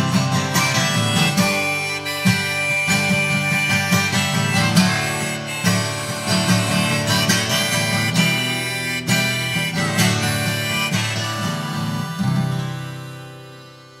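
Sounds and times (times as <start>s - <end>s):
harmonica melody: 0.0s - 14.0s
strummed acoustic guitar: 0.0s - 14.0s.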